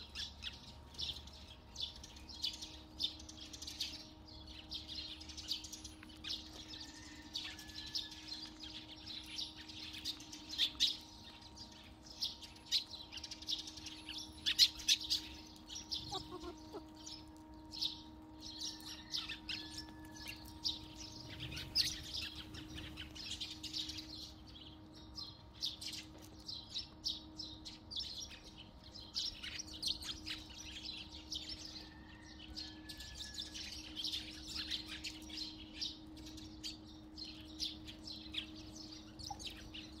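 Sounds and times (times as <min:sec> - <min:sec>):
sparrows chirping: 0:00.0 - 0:40.0.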